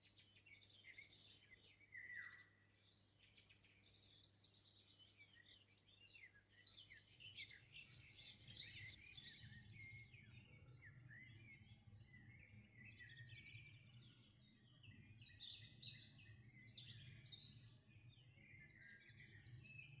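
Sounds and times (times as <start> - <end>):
songbirds chirping and trilling: 0.0 - 20.0.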